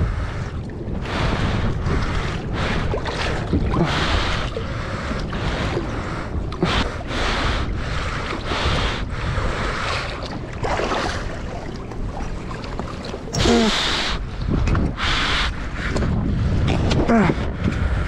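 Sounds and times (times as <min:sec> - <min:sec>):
water splashing against boat: 0:00.0 - 0:18.0
wind buffeting microphone: 0:00.0 - 0:18.0.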